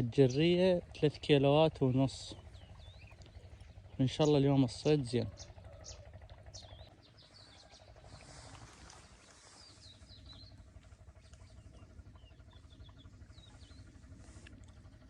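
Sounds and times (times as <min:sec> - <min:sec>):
small birds chirping: 0:00.0 - 0:15.0
steady low background noise: 0:00.0 - 0:15.0.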